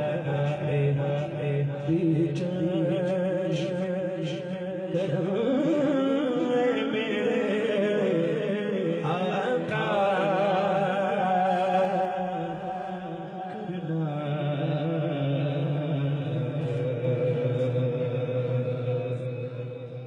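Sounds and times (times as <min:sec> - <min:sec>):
man chanting a devotional melody: 0:00.0 - 0:20.0.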